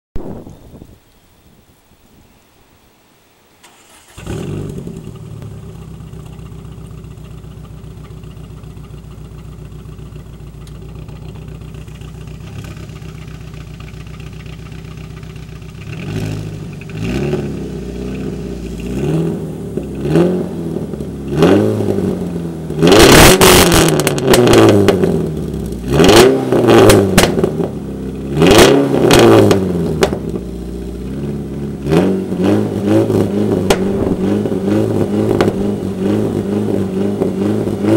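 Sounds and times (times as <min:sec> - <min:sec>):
car engine idling: 0:03.6 - 0:37.9
car engine revving: 0:03.6 - 0:37.9
car engine starting: 0:03.6 - 0:37.9.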